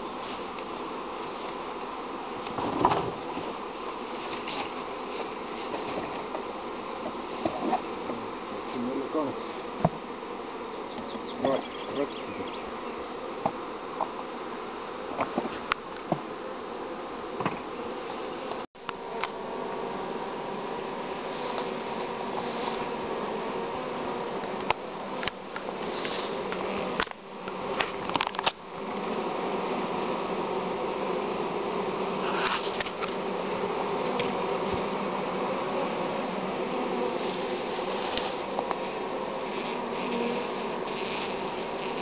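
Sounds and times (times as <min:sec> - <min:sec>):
honeybees humming: 0:00.0 - 0:42.0.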